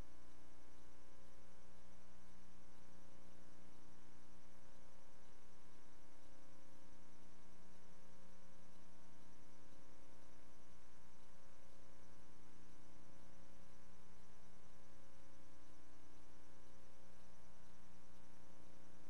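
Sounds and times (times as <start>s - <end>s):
constant hiss: 0.0s - 19.0s.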